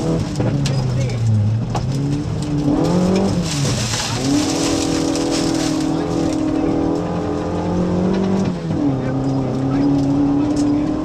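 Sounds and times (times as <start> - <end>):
car engine decelerating: 0.0 - 11.0.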